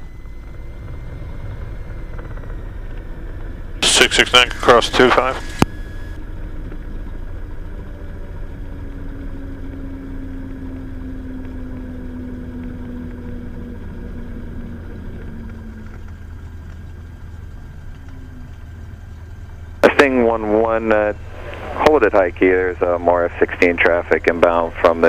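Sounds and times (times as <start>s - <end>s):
aircraft engine and propeller droning: 0.0s - 25.0s.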